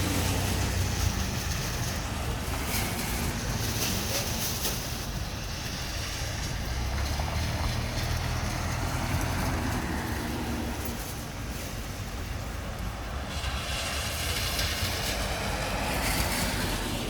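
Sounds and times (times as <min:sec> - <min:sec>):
steady rain hiss: 0:00.0 - 0:17.0
vehicle passing on wet street: 0:00.0 - 0:17.0.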